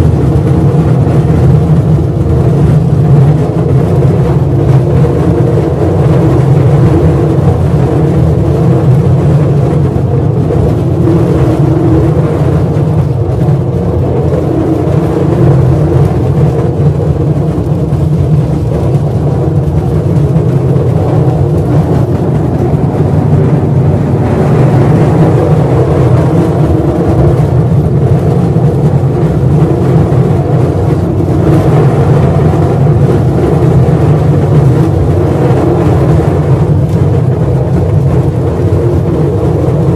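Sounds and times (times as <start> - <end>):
mine train deep rumble: 0.0 - 39.9.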